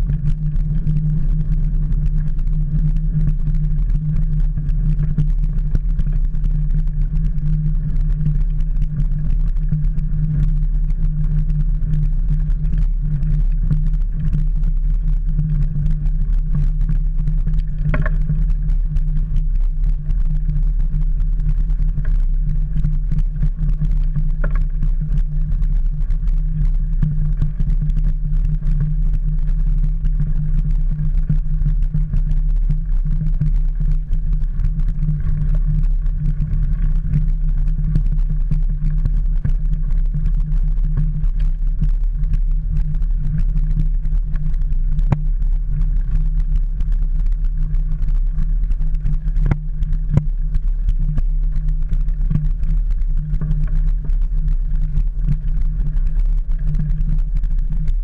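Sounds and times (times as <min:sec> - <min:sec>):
sharp ticks: 0:00.0 - 0:58.0
wind buffeting and road rumble: 0:00.0 - 0:58.0.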